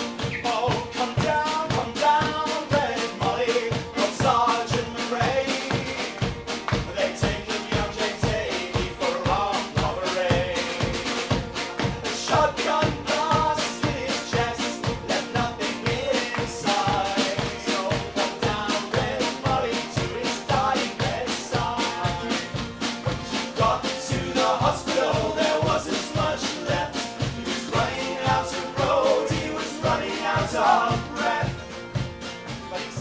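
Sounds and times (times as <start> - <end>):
band playing instrumental: 0.0 - 33.0.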